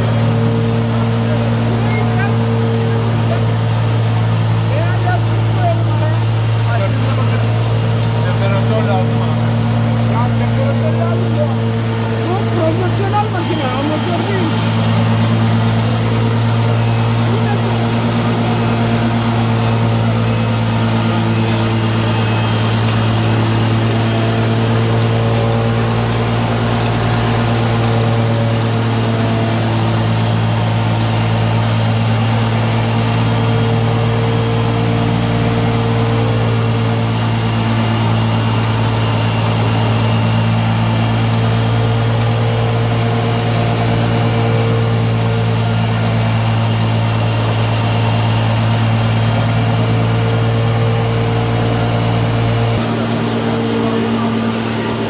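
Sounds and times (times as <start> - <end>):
machine motor humming: 0.0 - 55.0.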